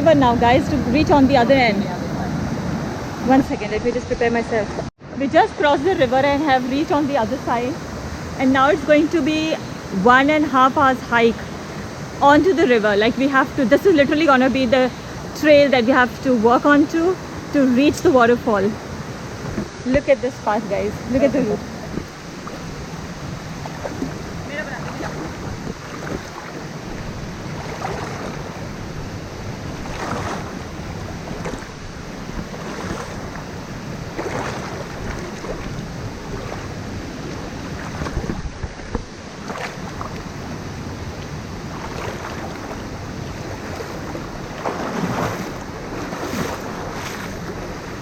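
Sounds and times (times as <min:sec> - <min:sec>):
river water rushing: 0:00.0 - 0:48.0
wind buffeting microphone: 0:00.0 - 0:48.0.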